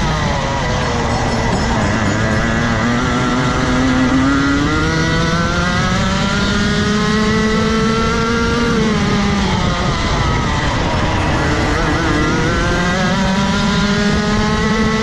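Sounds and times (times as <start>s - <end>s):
kart engine accelerating: 0.0s - 15.0s.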